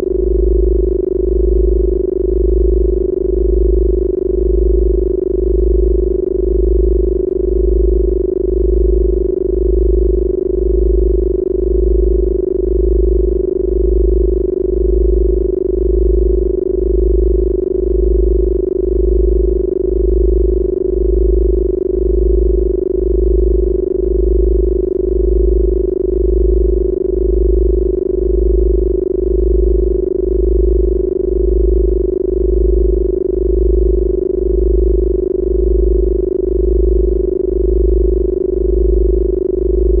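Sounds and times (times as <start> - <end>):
pulsing deep bass tone: 0.0 - 40.0
steady mid-pitched tone: 0.0 - 40.0.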